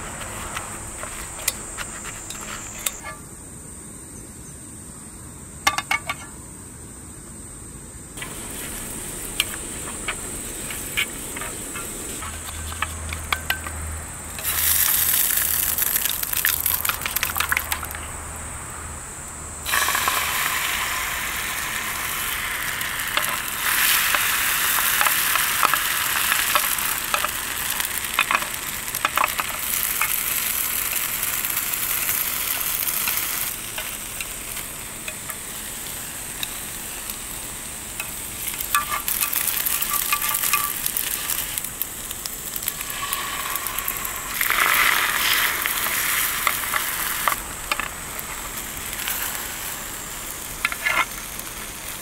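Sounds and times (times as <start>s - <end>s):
food frying with crackles: 0.0s - 3.2s, 8.2s - 52.0s.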